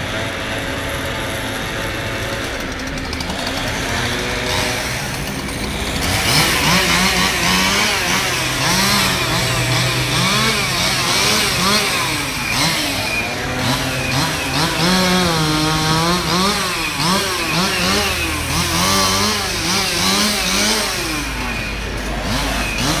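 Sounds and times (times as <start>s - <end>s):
chainsaw engine revving: 0.0s - 23.0s.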